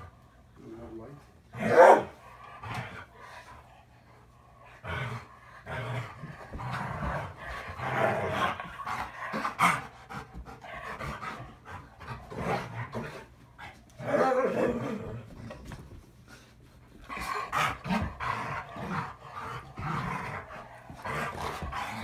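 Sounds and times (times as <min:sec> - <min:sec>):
dogs growling and grumbling: 0:01.0 - 0:15.8, 0:17.0 - 0:22.0
dogs panting: 0:02.3 - 0:14.0, 0:15.4 - 0:22.0.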